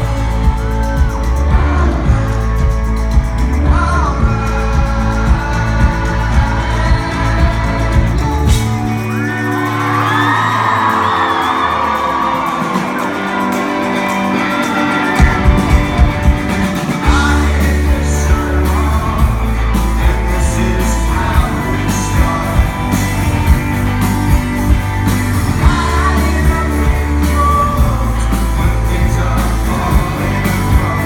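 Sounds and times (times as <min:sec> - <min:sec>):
person singing: 0:00.0 - 0:31.0
rock band playing live: 0:00.0 - 0:31.0.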